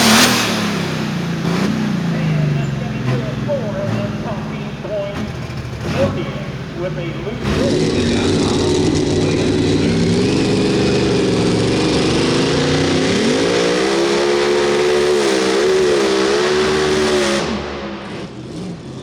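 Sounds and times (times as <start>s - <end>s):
engine running at full throttle: 0.0s - 19.0s.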